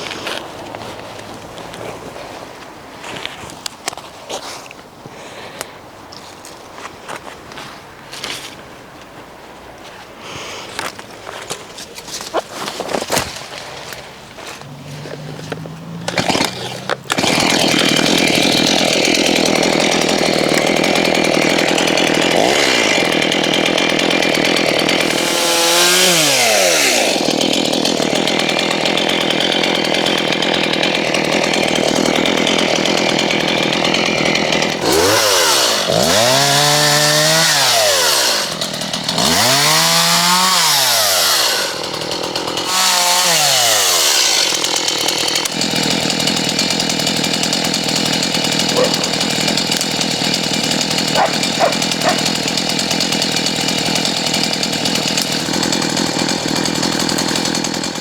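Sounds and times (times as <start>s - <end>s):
chainsaw cutting branches: 0.0s - 8.6s, 10.2s - 58.0s.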